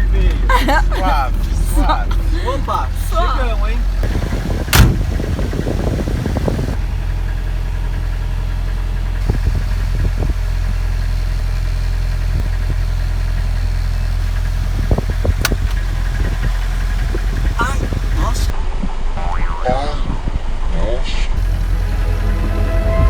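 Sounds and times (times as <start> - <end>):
van engine running: 0.0 - 18.5, 21.4 - 23.0.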